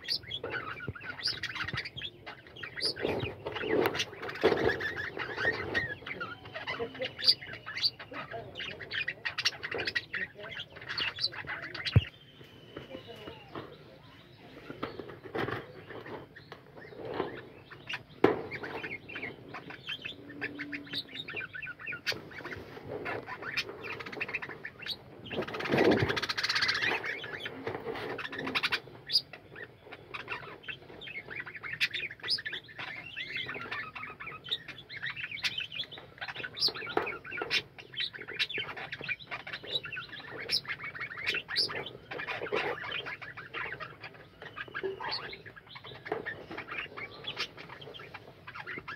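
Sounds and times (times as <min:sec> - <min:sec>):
budgerigars chirping and squawking: 0:00.0 - 0:48.9.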